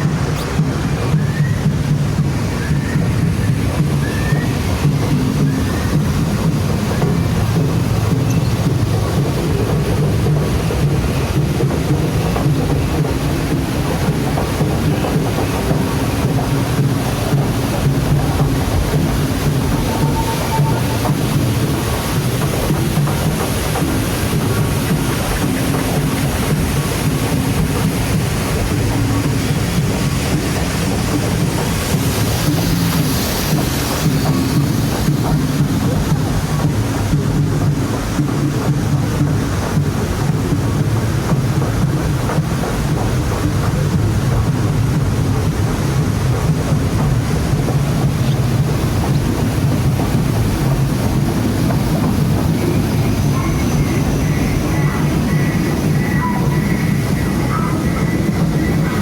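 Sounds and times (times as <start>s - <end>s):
rushing water: 0.0s - 59.0s
wind buffeting microphone: 0.0s - 59.0s.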